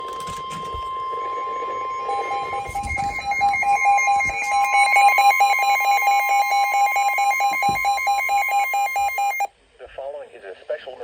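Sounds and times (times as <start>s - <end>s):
pulsing alternating alarm tone: 0.2s - 9.5s
steady high electronic tone: 0.2s - 9.5s.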